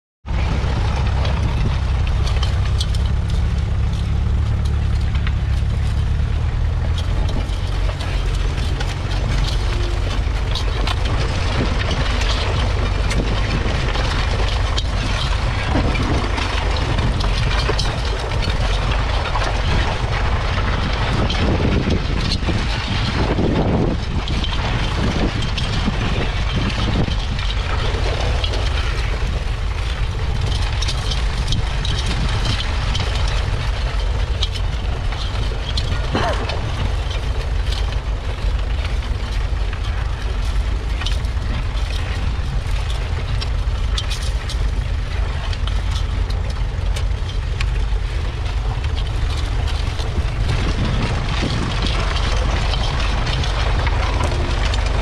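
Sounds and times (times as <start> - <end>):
plough rattling through soil: 0.2 - 55.0
tractor diesel engine running: 0.2 - 55.0.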